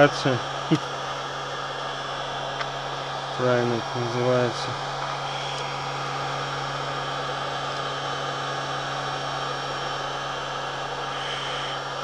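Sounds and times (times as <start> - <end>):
heat gun blowing air: 0.0 - 12.0.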